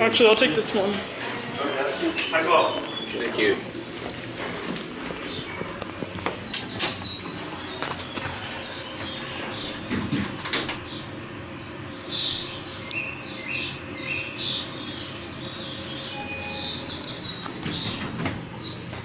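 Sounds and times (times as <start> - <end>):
recorded birds chirping over speaker: 0.0 - 19.0
steady low hum: 0.0 - 19.0.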